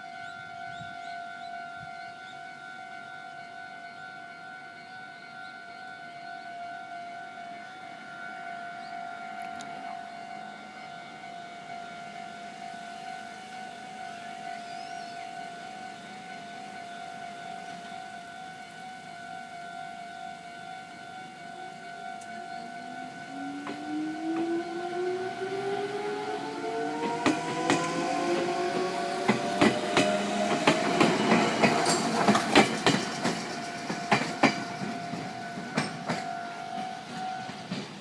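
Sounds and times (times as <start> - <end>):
level-crossing warning bell: 0.0 - 38.0.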